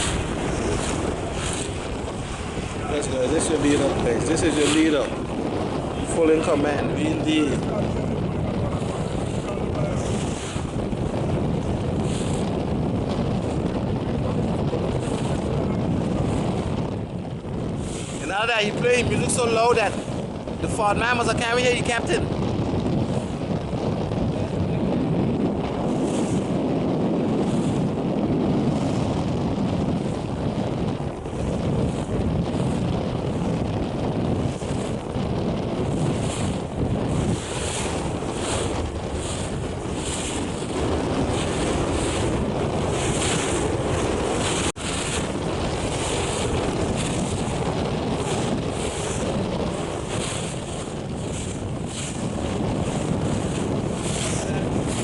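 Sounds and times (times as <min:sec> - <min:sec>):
water rushing along hull: 0:00.0 - 0:55.0
wind buffeting microphone: 0:00.0 - 0:55.0.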